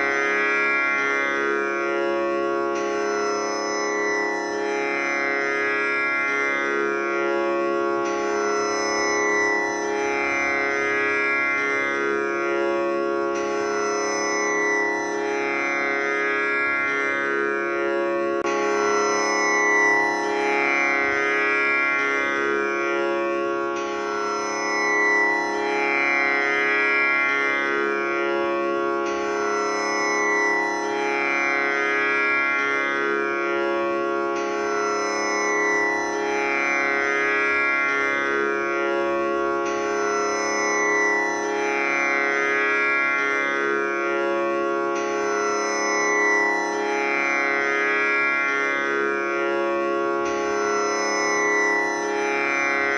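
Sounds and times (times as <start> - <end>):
tanpura drone: 0.0 - 52.9.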